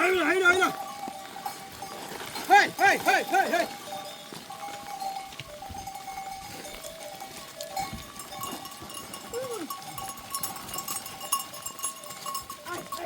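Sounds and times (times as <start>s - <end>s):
goat bells ringing: 0.0s - 13.0s.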